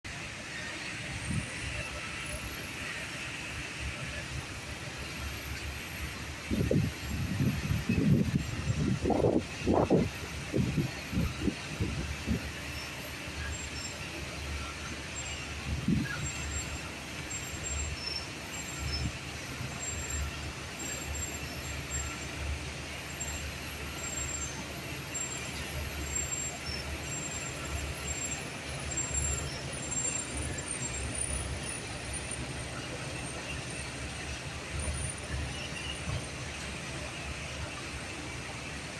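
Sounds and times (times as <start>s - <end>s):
bulldozer diesel engine rumbling: 0.0s - 38.9s.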